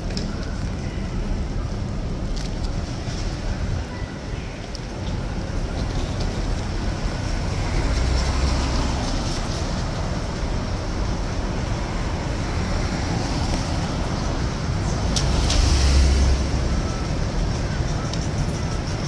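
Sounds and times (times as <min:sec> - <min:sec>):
rain: 0:00.0 - 0:19.0
traffic hiss: 0:00.0 - 0:19.0.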